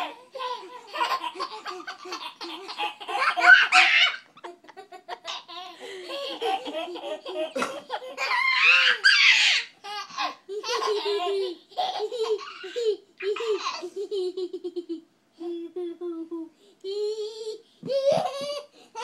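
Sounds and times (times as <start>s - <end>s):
baby laughing: 0.0s - 15.0s, 17.8s - 19.0s.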